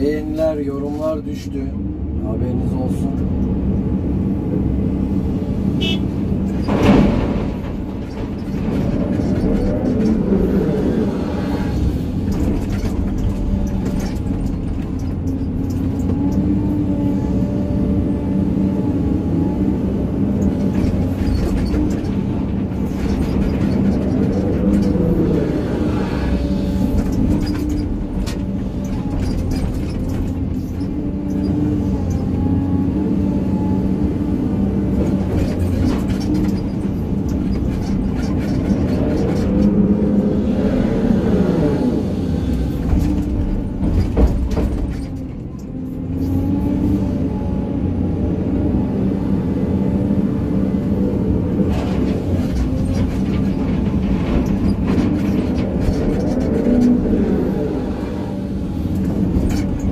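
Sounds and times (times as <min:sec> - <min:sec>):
excavator diesel engine running: 0:01.7 - 0:59.9.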